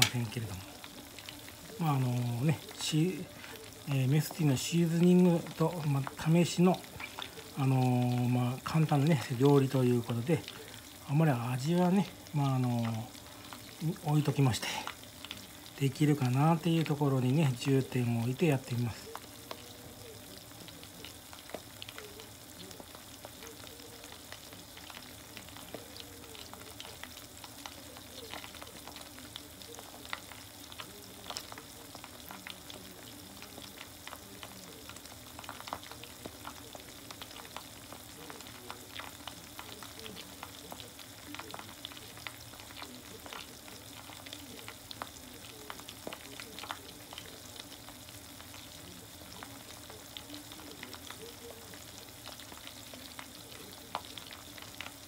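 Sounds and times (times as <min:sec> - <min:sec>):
deep-frying sizzle with pops: 0:00.0 - 0:55.0.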